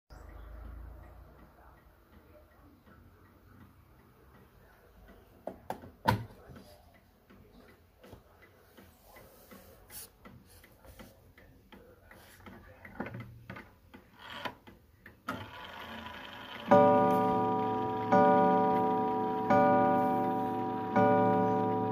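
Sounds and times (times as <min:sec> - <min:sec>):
mantel clock ticking: 0:00.1 - 0:12.6, 0:13.2 - 0:21.9.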